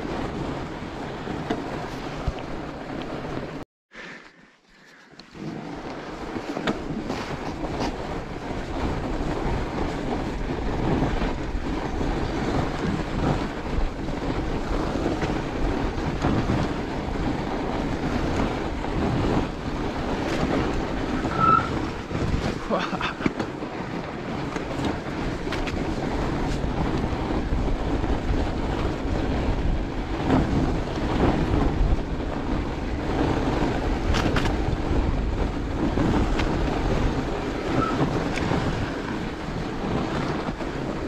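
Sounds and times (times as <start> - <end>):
wind on microphone: 0.0 - 3.6, 4.8 - 41.0
bike tyres rumbling on snow: 0.0 - 41.0
bike clicks and rattles: 4.2 - 40.9.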